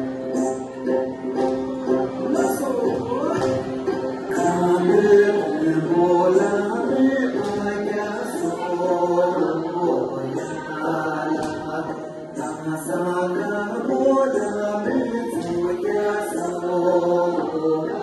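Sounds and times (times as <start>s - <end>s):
group singing: 0.0s - 18.0s.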